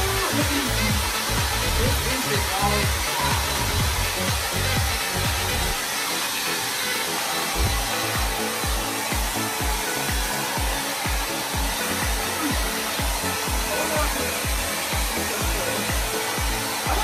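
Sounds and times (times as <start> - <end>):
background music with low beat: 0.0 - 17.0
blow dryer running: 0.0 - 17.0.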